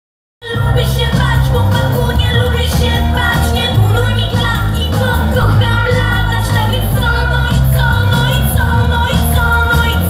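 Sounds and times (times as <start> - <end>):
live pop band playing: 0.4 - 10.0
woman singing: 0.4 - 10.0
heavy bass line: 0.8 - 10.0.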